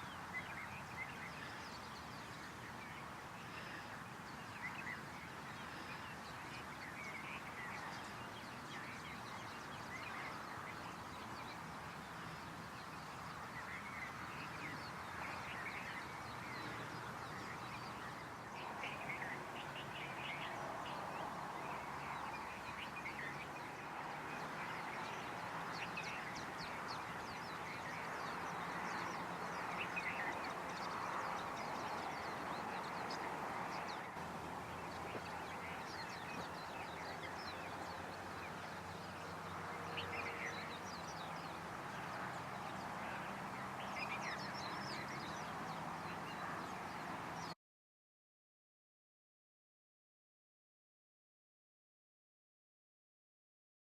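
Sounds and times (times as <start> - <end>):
steady background hiss: 0.0 - 45.4
birds chirping: 0.0 - 47.6.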